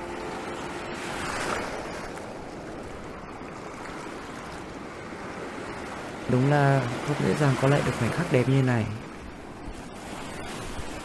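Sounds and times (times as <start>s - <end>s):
sea waves washing on shore: 0.0s - 11.0s
wind: 0.0s - 11.0s.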